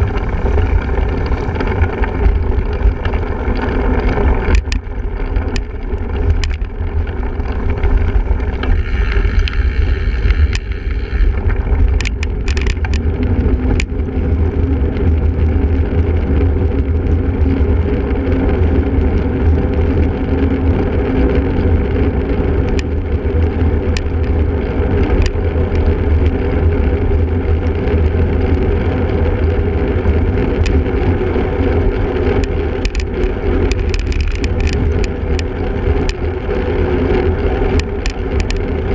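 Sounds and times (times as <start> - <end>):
bike clicks and rattles: 0.0 - 38.9
tyres rolling on rough ground: 0.0 - 38.9
wind buffeting microphone: 0.0 - 38.9.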